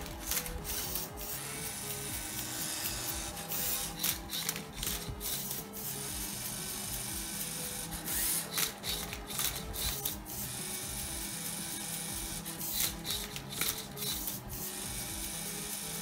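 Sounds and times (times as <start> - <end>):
background music: 0.0 - 16.0
robot motors whirring: 0.0 - 16.0.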